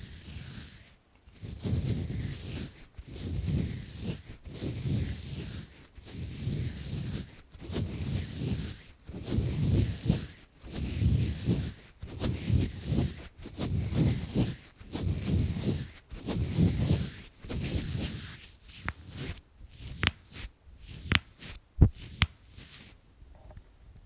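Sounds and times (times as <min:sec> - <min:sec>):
gloves rubbing near microphone: 0:00.0 - 0:23.1.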